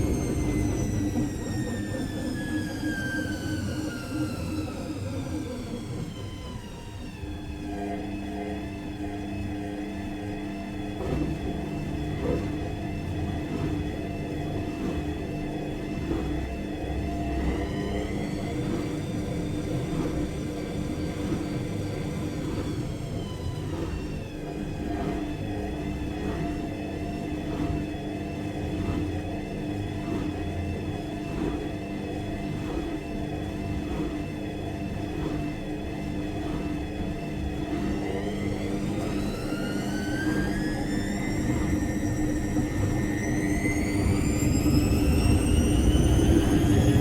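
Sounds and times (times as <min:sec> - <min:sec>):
washing machine motor hum: 0:00.0 - 0:47.0.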